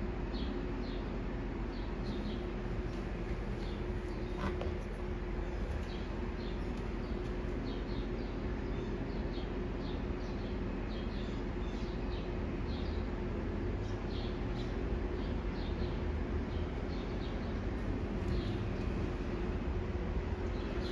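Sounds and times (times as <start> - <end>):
steady hum: 0.0 - 20.9
small birds chirping: 0.2 - 20.9.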